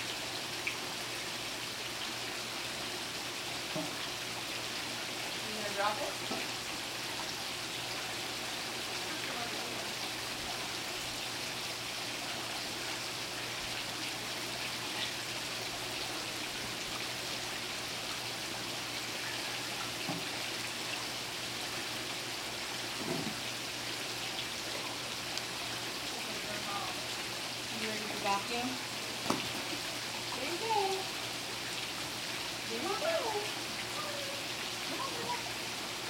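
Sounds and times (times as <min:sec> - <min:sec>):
water jets splashing into pool: 0:00.0 - 0:36.0.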